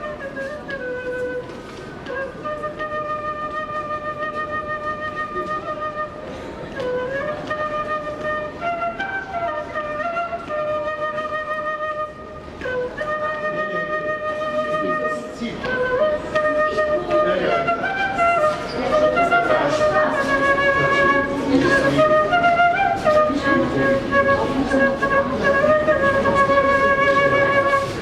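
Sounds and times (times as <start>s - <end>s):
wind instrument slow melody: 0.0s - 28.0s.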